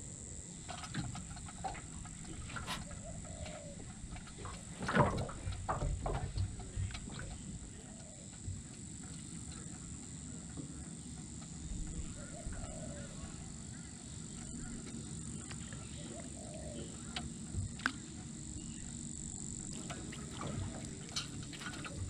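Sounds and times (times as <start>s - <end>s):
wind and water rumble: 0.0s - 22.0s.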